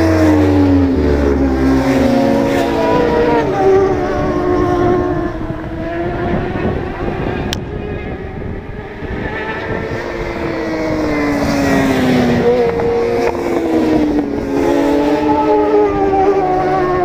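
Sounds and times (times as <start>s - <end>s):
racing motorcycles at high revs: 0.0s - 17.0s.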